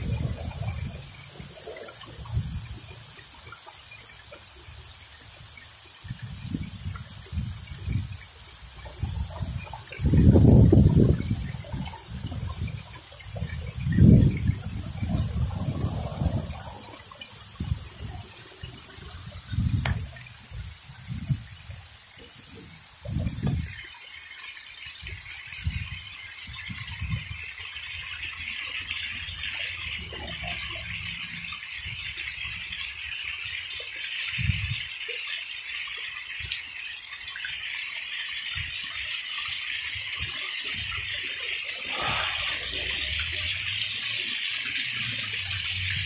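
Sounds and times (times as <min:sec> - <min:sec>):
fountain water splashing: 0:00.0 - 0:46.0.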